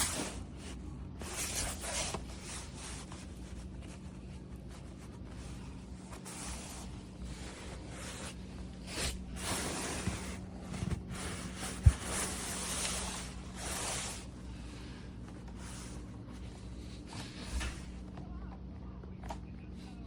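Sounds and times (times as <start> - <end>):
rubbing and rustling handling noise: 0.0 - 20.0
steady low hum: 0.0 - 20.0.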